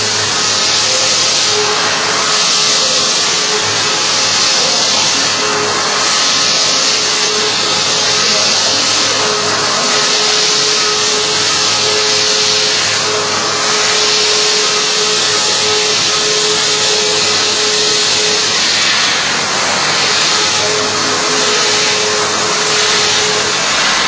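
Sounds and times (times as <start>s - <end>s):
machine hiss: 0.0s - 24.0s
machine whine: 0.0s - 24.0s.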